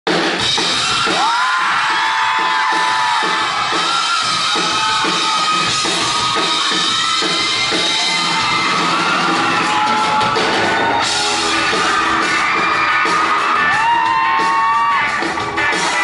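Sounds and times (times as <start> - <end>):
bass guitar: 0.1 - 16.0
drum kit beat: 0.1 - 16.0.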